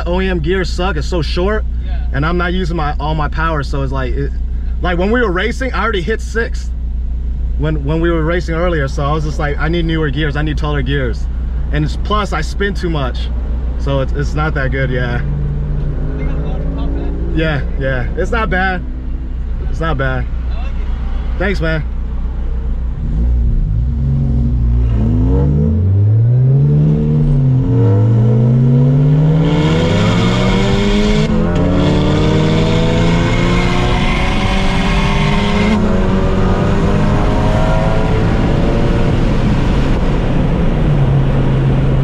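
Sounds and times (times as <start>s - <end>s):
car engine accelerating hard: 7.8s - 42.0s.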